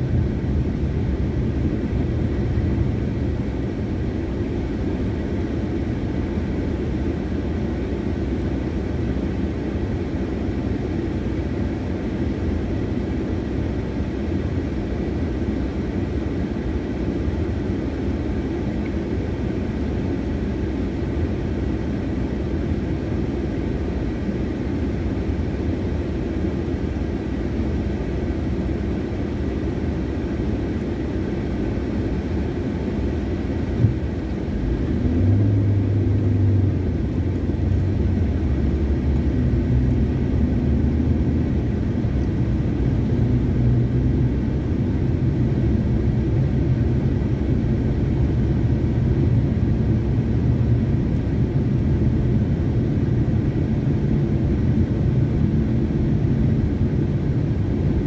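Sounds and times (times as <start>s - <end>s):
car cabin engine hum: 0.0s - 58.0s.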